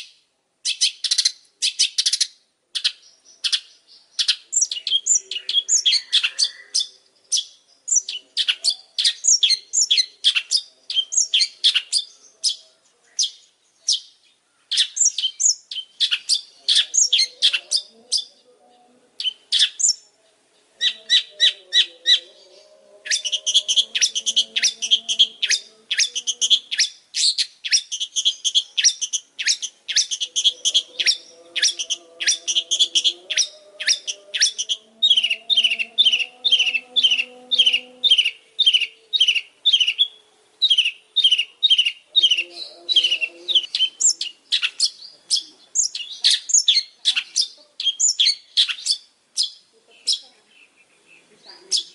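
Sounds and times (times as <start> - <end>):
bird singing rapid high notes: 0.6 - 12.6, 20.8 - 51.9.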